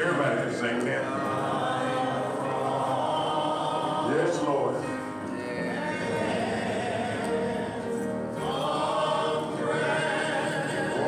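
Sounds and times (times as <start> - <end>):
choir singing a gospel hymn: 0.0 - 11.0.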